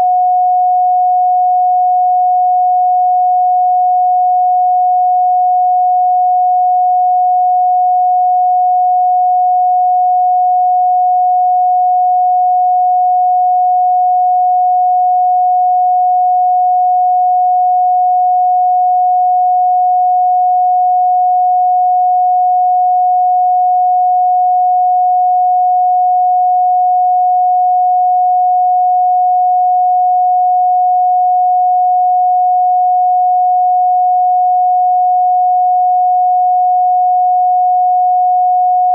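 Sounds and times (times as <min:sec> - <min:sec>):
steady sine tone: 0:00.0 - 0:38.9.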